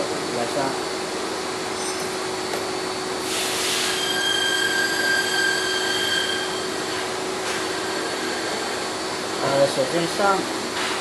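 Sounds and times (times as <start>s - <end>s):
steady high whine: 0.0s - 11.0s.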